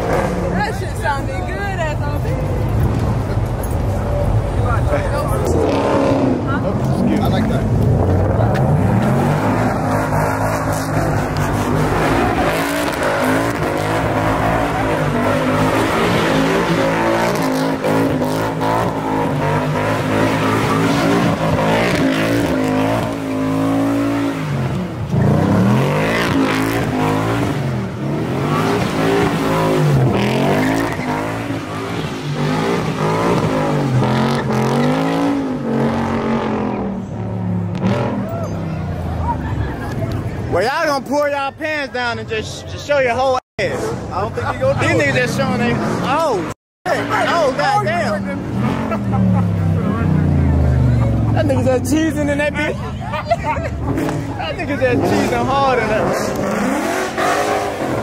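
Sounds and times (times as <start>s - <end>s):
car engine revving: 0.0s - 39.2s, 43.6s - 53.0s, 53.6s - 58.0s
tyres squealing and skidding: 3.5s - 37.1s, 37.7s - 58.0s.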